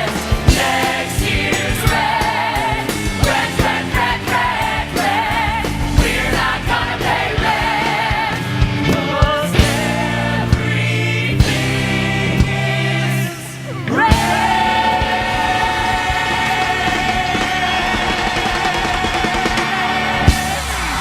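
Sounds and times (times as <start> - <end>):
band accompaniment: 0.0 - 21.0
ensemble singing with vibrato: 0.0 - 21.0
steady drum beat: 0.0 - 21.0.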